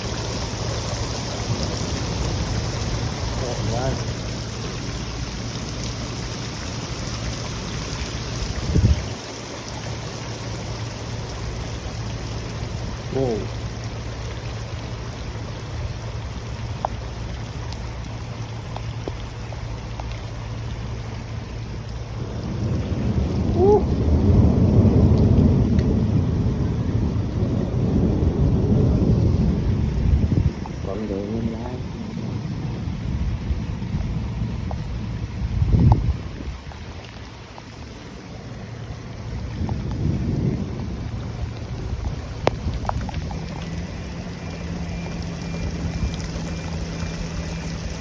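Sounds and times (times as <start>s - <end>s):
storm wind buffeting microphone: 0.0s - 13.2s, 21.7s - 38.0s, 39.0s - 48.0s.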